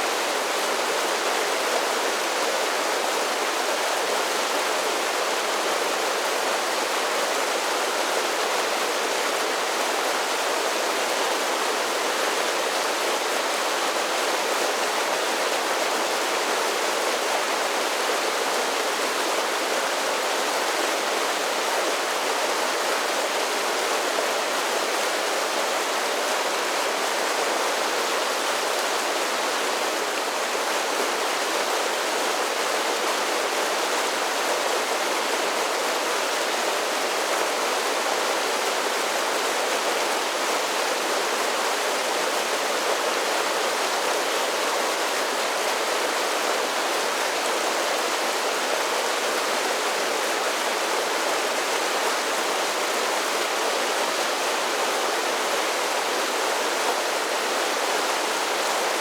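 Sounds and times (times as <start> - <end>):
creek water cascading over waterfalls: 0.0 - 59.0.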